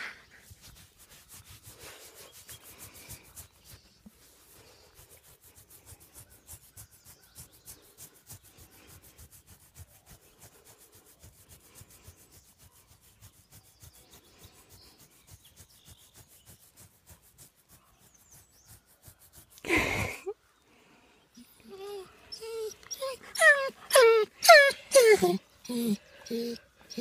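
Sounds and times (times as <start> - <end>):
hand scratching fur: 0.0 - 20.2, 21.6 - 27.0.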